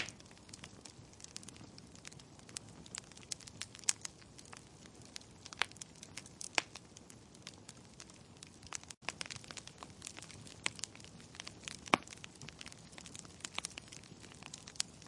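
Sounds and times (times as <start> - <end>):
fire pops: 0.0 - 15.0
wood logs crackling in fireplace: 0.0 - 15.0.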